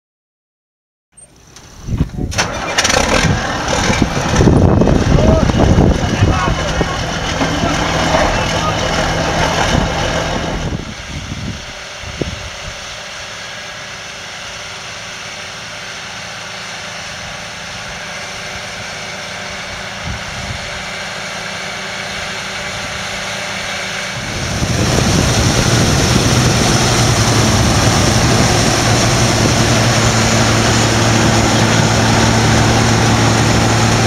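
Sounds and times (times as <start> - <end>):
deep machine sound: 1.2 - 34.0
tractor engine running: 1.2 - 34.0.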